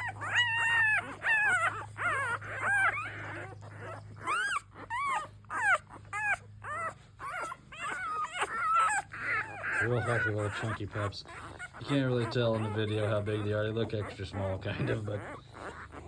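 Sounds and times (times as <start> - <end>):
puppies crying: 0.0 - 16.0.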